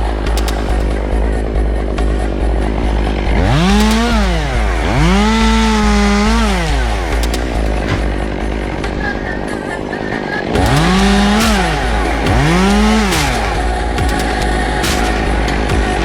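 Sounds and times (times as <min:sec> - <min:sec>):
chainsaw revving: 0:00.0 - 0:16.0
low engine drone: 0:00.0 - 0:16.0.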